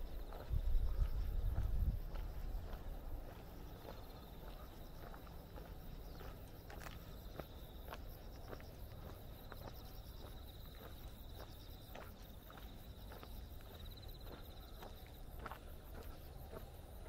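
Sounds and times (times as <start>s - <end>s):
footsteps on a paved path: 0.0s - 17.0s
insects trilling: 0.0s - 17.0s.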